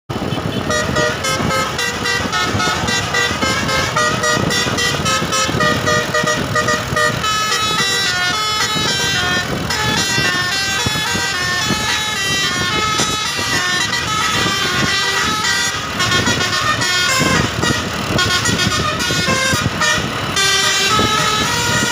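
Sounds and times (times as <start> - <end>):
multi-tone air horn tune: 0.1 - 21.9
noisy rumble: 0.1 - 21.9.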